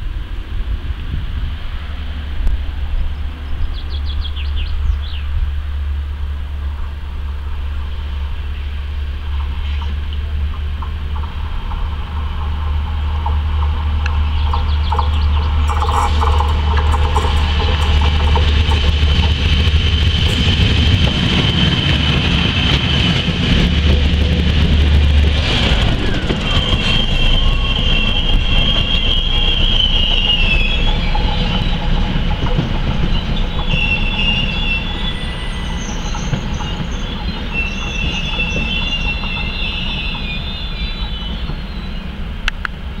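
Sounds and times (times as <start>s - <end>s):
train rolling rumble: 0.0s - 43.0s
electric locomotive running: 4.8s - 43.0s
train wheels squealing on rails: 7.1s - 43.0s.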